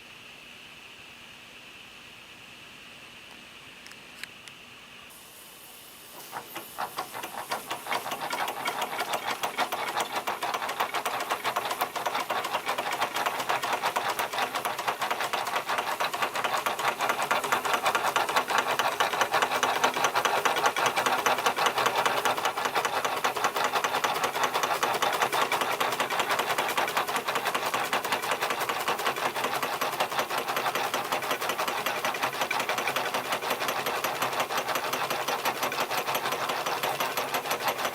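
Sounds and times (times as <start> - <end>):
toy steam engine clattering: 6.2 - 37.9.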